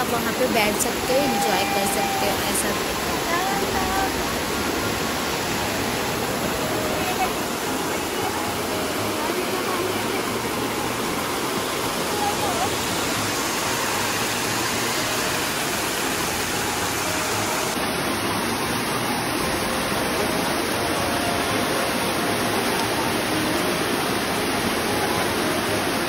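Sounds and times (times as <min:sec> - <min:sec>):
water rushing down a waterfall: 0:00.0 - 0:26.0.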